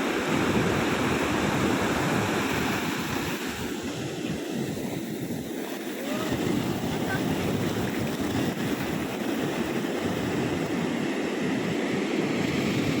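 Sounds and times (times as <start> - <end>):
sea waves breaking on beach: 0.0 - 13.0
wind buffeting microphone: 0.0 - 13.0.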